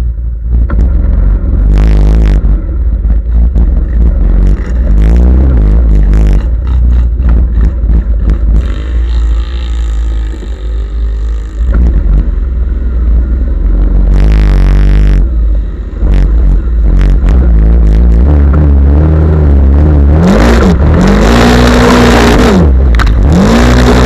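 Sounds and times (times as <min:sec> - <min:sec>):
off-road vehicle engines revving: 0:00.0 - 0:24.0
scattered clatter: 0:00.4 - 0:19.0, 0:19.9 - 0:24.0.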